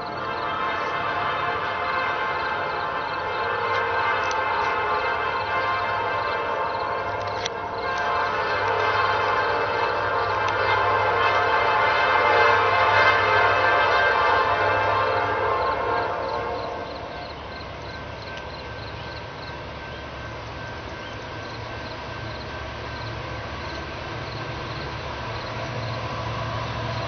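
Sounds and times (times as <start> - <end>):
low rumble of train: 0.0 - 27.0
train horn chord: 0.0 - 27.0.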